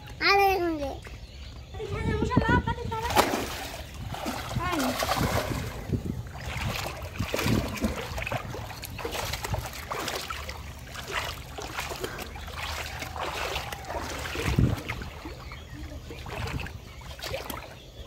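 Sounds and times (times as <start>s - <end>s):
muddy water splashing: 2.9s - 18.0s.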